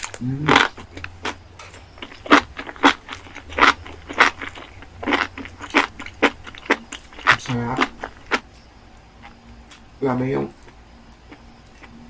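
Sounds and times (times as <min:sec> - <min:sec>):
chewing food close up: 0:00.0 - 0:08.5, 0:10.6 - 0:12.0.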